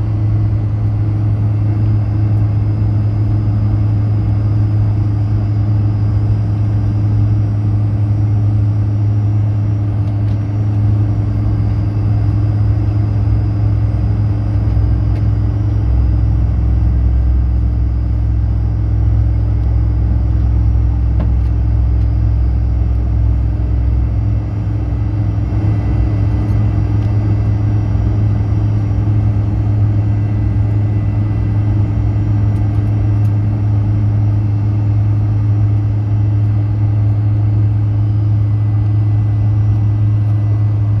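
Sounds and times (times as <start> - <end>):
faint engine whine: 0.0 - 41.0
jet engine drone in cabin: 0.0 - 41.0.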